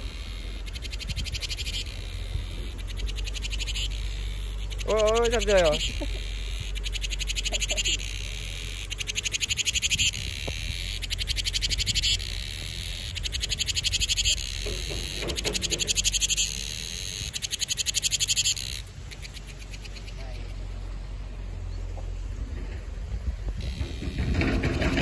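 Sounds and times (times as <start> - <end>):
cicada pulsing buzz: 0.0 - 25.0.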